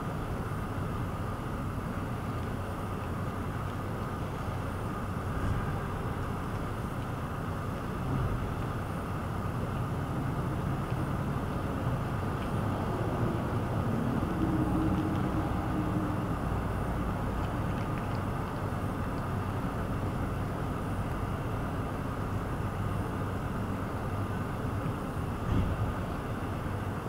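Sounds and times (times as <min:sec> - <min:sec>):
distant city traffic rumble: 0:00.0 - 0:27.0
faint engine hum: 0:00.0 - 0:27.0.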